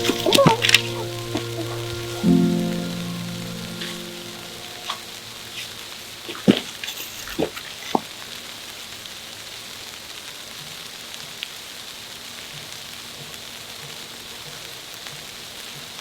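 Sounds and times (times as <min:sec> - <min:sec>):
snowstorm hiss: 0:00.0 - 0:16.0.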